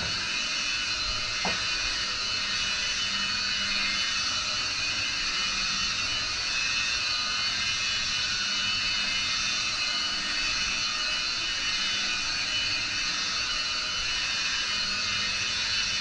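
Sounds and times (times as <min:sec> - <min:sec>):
electric polisher whining: 0:00.0 - 0:16.0.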